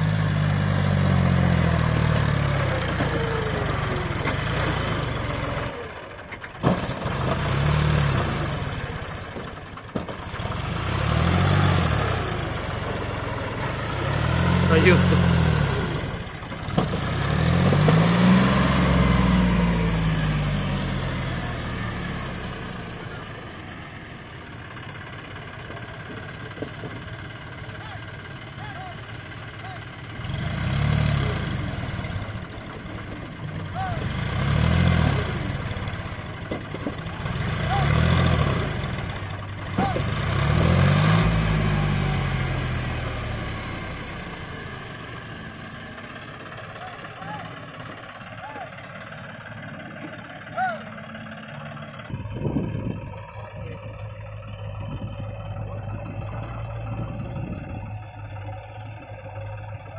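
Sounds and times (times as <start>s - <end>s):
tractor diesel engine labouring: 0.0s - 59.9s.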